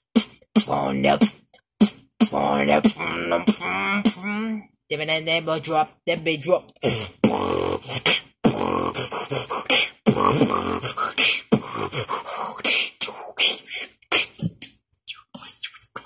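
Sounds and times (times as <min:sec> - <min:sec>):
person beatboxing: 0:00.0 - 0:04.6, 0:06.2 - 0:16.0.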